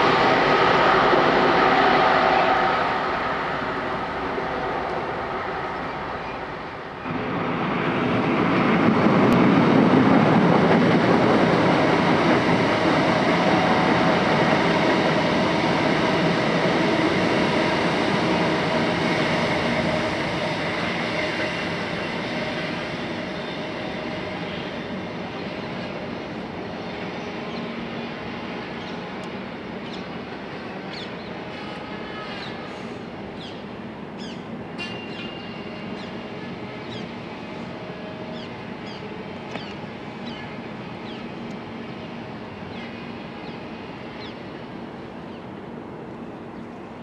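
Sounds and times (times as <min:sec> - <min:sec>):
electric train passing: 0:00.0 - 0:47.0.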